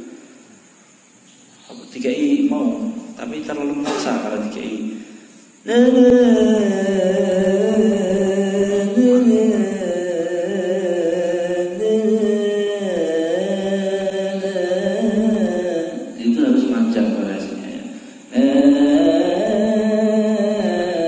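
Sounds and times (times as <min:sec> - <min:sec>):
man reciting melodically: 0:01.6 - 0:21.0.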